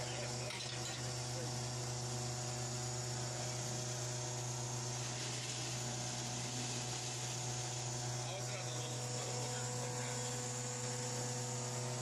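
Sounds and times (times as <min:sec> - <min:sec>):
machine hum: 0:00.0 - 0:12.0
even hiss: 0:01.2 - 0:12.0.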